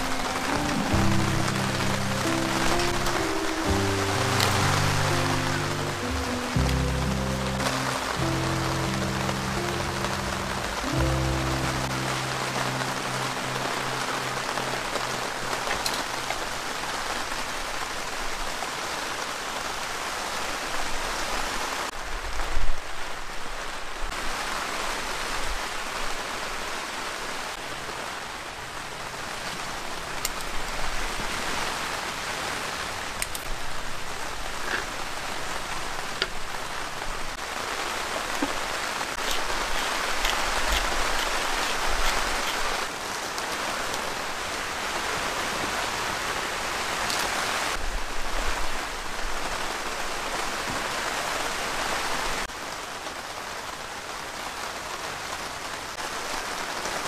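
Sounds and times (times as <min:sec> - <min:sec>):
heavy rain on a tent: 0:00.0 - 0:57.0.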